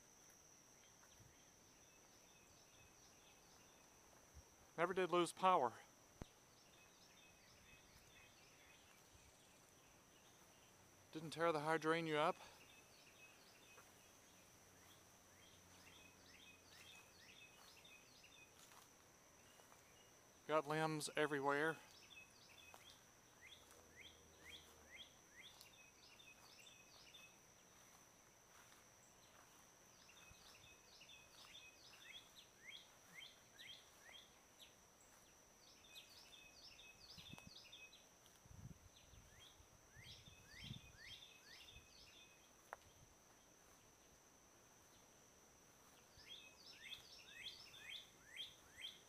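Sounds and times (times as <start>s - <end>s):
songbird chirping faintly: 0.0s - 49.0s.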